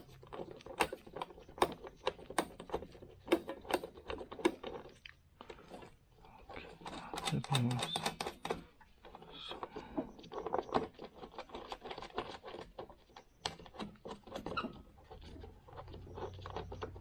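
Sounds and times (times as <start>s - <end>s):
parts clicking and rattling: 0.0s - 17.0s.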